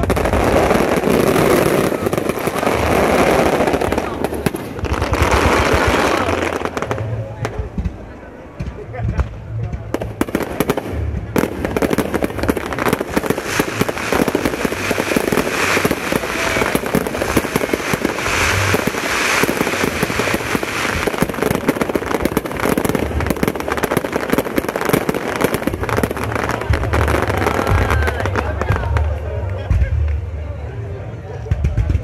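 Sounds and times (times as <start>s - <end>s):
fireworks booming: 0.0s - 30.1s
fireworks crackling: 0.0s - 30.4s.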